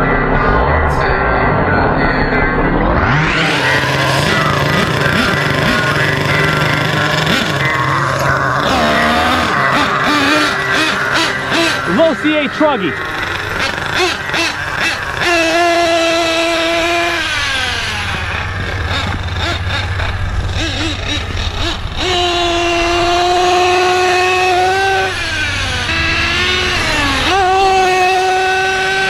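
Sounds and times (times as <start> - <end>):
nitro engine revving: 0.0 - 29.0.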